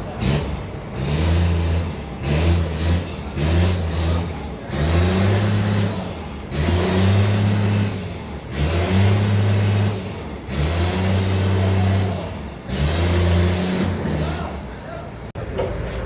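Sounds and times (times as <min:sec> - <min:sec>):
engine revving: 0:00.0 - 0:14.7.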